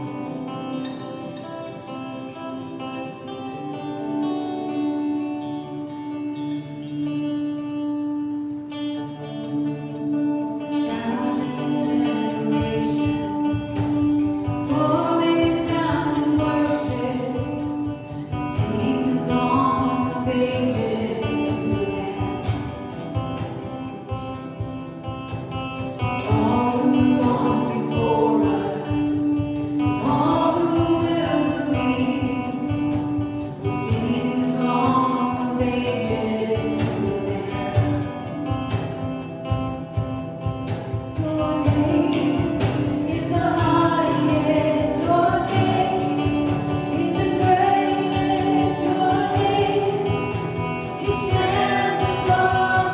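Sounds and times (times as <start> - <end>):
gospel group singing with instruments: 9.8 - 52.9.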